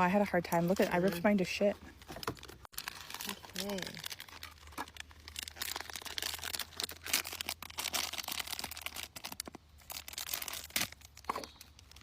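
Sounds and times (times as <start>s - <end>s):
packaging crinkling and tearing: 2.0s - 12.0s.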